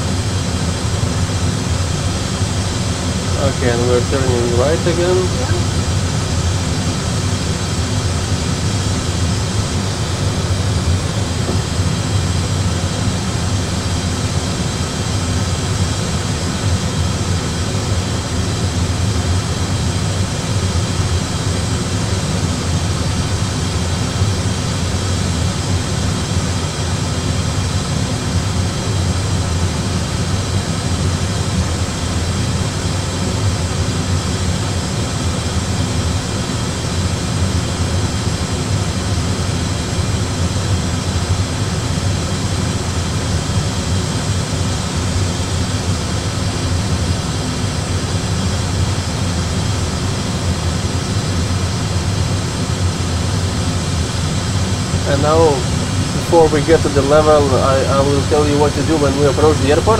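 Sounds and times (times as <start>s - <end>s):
aircraft cockpit low rumble: 0.0s - 59.9s.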